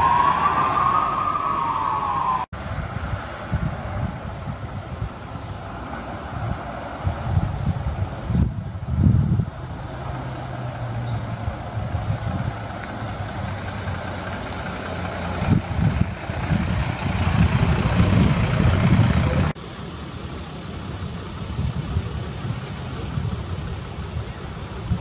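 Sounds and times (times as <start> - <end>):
diesel truck engine approaching: 0.0 - 25.0
steady vehicle hum: 0.0 - 25.0.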